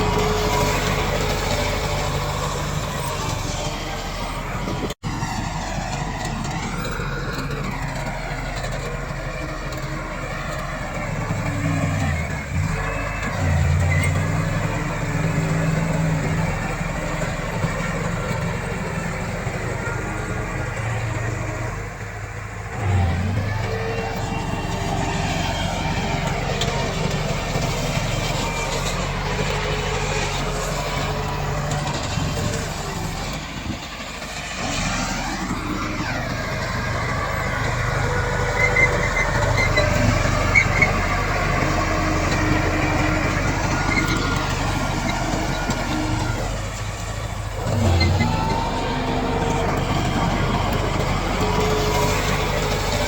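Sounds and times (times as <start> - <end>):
bulldozer diesel engine under load: 0.0 - 53.0.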